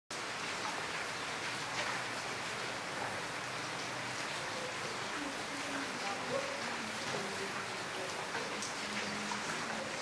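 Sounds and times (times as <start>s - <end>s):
rain on stone paving: 0.1s - 10.0s.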